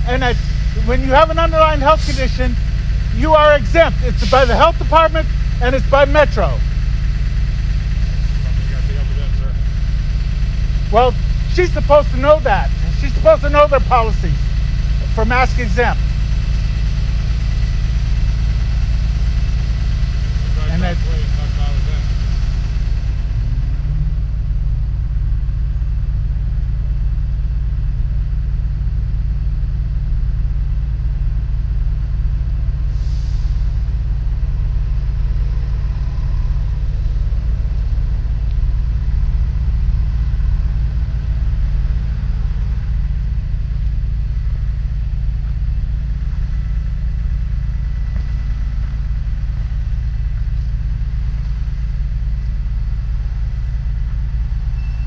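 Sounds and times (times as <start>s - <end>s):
loud low rumble: 0.0s - 55.0s.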